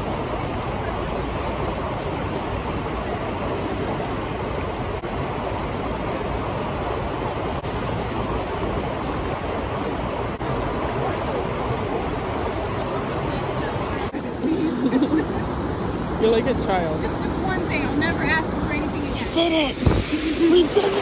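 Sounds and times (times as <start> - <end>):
water rushing from waterfall: 0.0 - 21.0.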